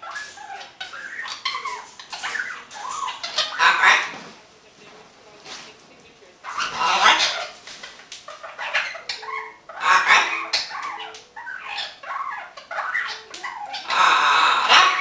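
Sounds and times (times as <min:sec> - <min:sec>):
macaw squawking: 0:00.0 - 0:04.2, 0:06.4 - 0:07.6, 0:08.3 - 0:15.0.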